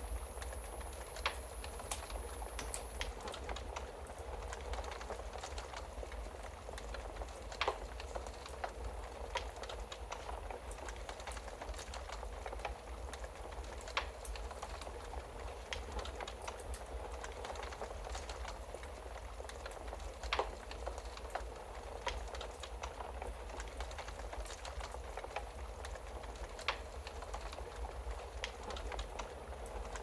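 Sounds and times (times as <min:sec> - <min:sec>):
wood fire crackling: 0:00.0 - 0:30.0
sharp fire pops: 0:00.3 - 0:30.0.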